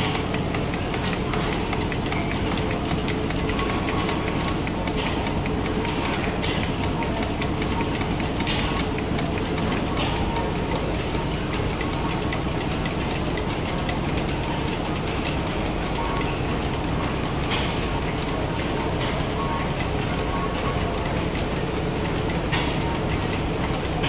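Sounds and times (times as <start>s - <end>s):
steam engines clattering: 0.0s - 24.0s.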